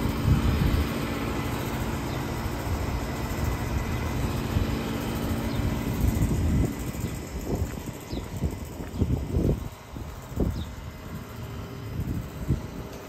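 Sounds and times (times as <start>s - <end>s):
rumbling whoosh of air: 0.0s - 13.0s.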